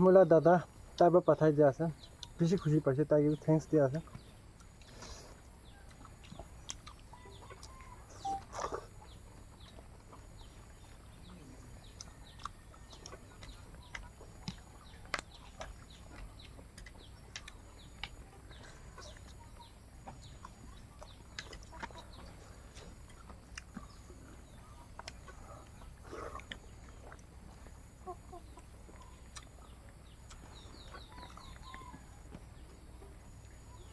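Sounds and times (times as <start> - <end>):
chewing and lip-smacking: 2.0 - 2.7, 4.0 - 32.1.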